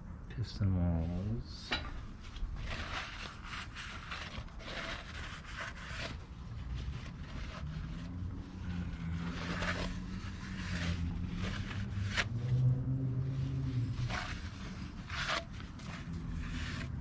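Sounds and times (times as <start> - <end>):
parts scraping and knocking: 1.6 - 12.6, 13.4 - 17.0.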